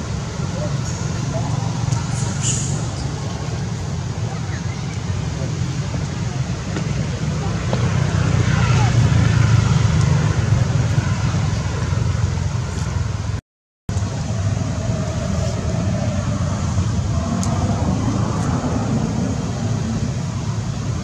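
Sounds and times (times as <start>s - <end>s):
low outdoor rumble: 0.0s - 21.0s
noise haze: 0.0s - 21.0s.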